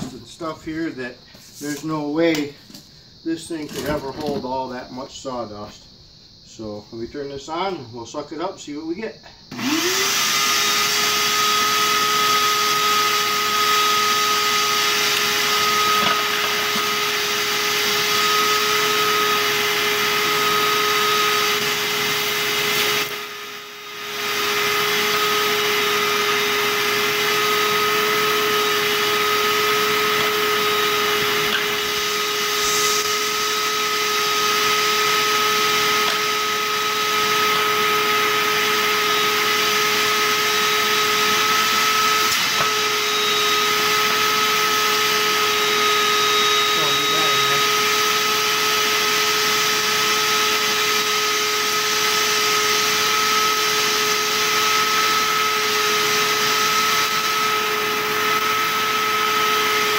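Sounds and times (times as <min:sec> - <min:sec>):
shop vac running: 0:00.0 - 0:05.8, 0:06.5 - 0:59.9.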